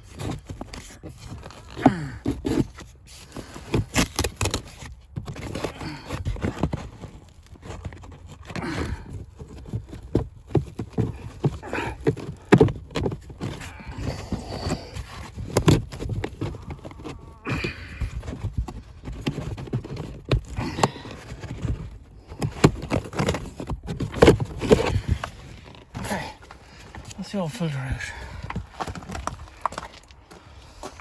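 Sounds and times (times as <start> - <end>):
filter scraping and rustling: 0.0 - 31.0.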